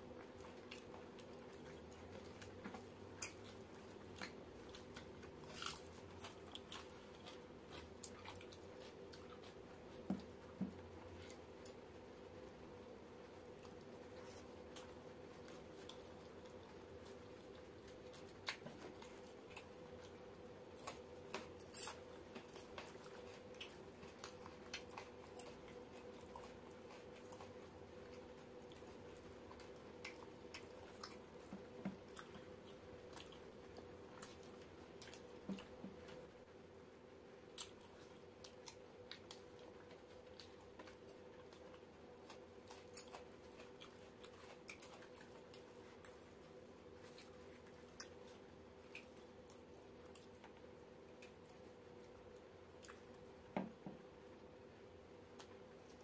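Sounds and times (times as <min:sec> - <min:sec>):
people chewing: 0:00.0 - 0:36.4, 0:37.2 - 0:54.5.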